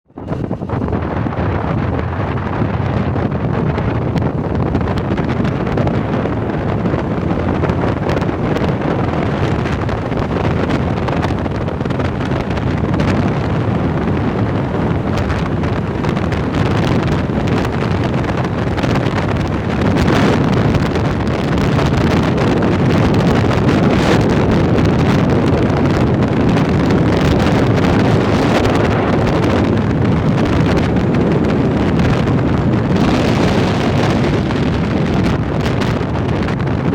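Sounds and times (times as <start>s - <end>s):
dull rushing noise: 0.1s - 36.9s
wind buffeting microphone: 0.1s - 36.9s.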